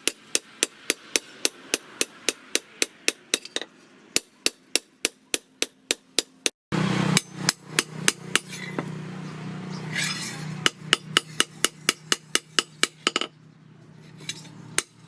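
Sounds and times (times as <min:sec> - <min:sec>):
hammer striking steel: 0:00.0 - 0:06.5, 0:07.1 - 0:08.9, 0:10.0 - 0:13.3, 0:14.3 - 0:15.0.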